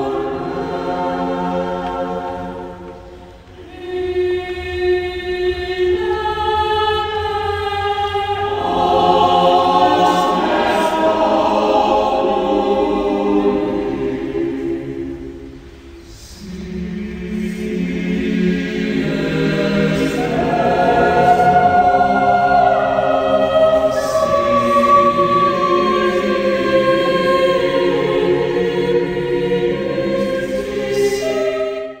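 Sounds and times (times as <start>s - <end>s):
choir singing long chords: 0.0s - 32.0s.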